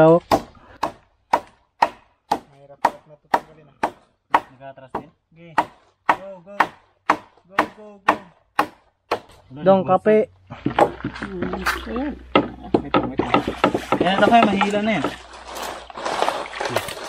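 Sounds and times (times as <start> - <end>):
knife chopping wood: 0.2 - 9.4, 10.6 - 15.2.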